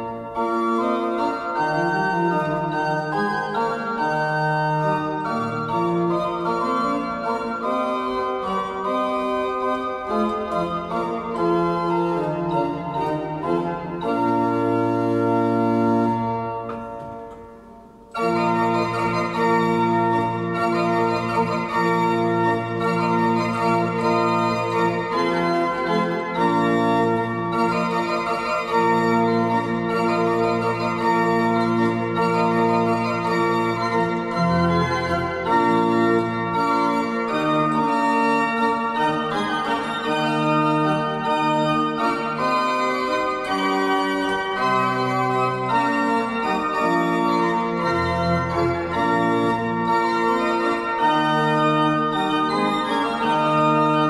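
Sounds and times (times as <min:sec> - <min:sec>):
pipe organ playing chorale: 0:00.0 - 0:54.0.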